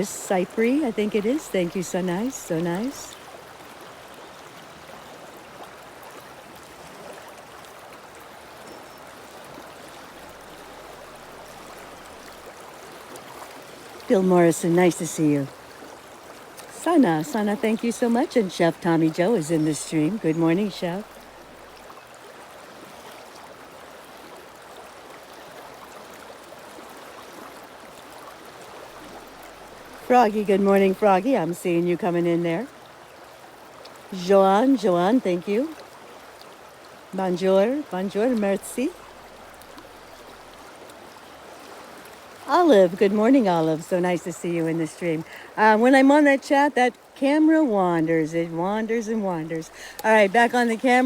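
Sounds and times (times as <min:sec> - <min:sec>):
stream water rushing and babbling: 0:00.0 - 0:51.0.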